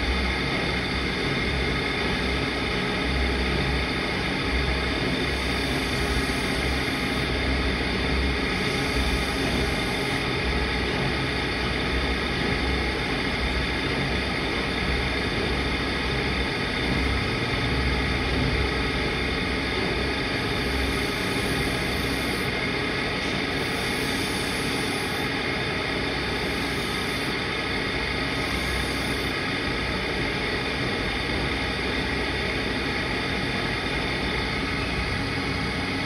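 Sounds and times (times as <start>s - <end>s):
motorized sharpening wheel running: 0.0s - 14.3s, 18.4s - 35.9s.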